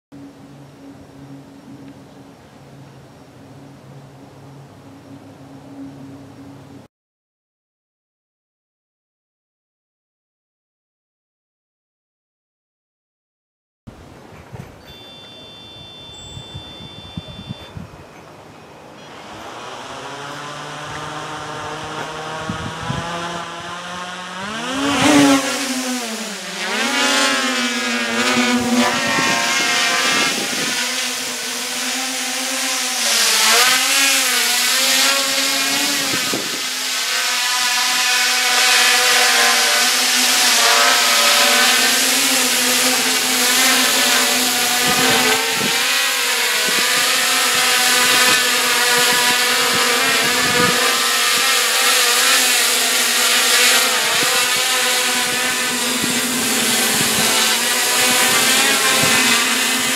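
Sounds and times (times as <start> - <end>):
drone propellers whining: 0.2 - 6.9, 14.8 - 59.9.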